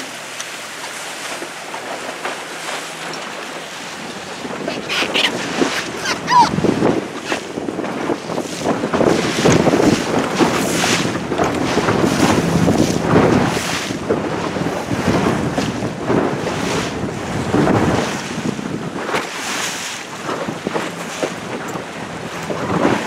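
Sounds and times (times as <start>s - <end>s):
water washing against hull: 0.0s - 23.0s
wind buffeting microphone: 1.4s - 23.0s.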